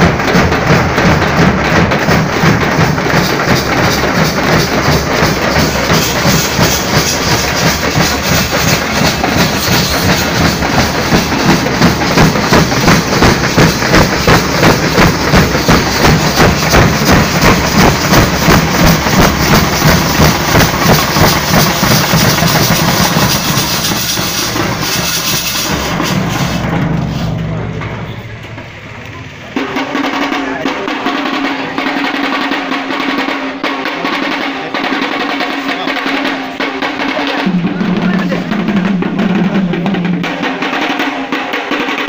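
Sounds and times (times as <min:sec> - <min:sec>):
dhol drums beating: 0:00.0 - 0:42.0.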